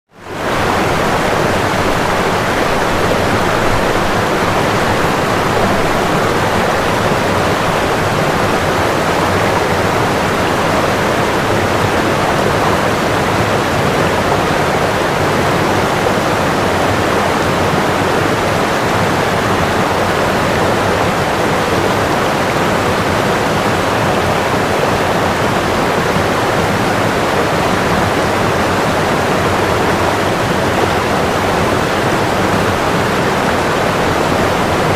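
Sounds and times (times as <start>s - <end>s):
running water rushing: 0.1s - 34.9s.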